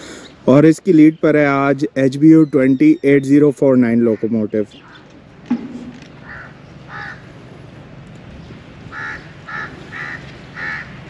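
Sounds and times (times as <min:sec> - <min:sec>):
bird calling: 0:00.0 - 0:07.7, 0:08.3 - 0:11.0
low steady background rumble: 0:00.0 - 0:11.0.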